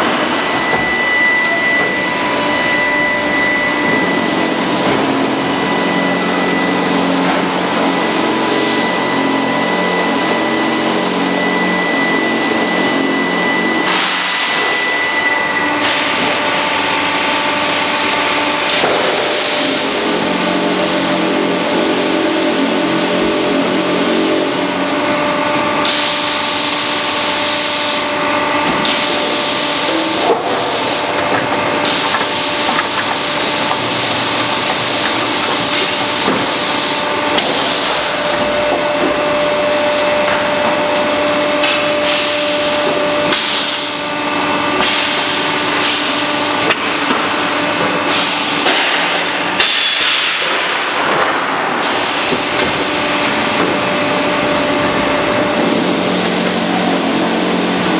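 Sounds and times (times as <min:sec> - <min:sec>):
machinery whining: 0:00.0 - 0:57.9.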